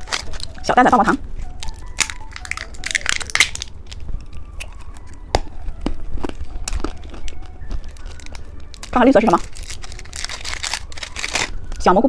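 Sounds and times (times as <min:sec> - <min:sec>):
plastic wrapper crinkling: 0:00.0 - 0:00.7, 0:01.3 - 0:11.8.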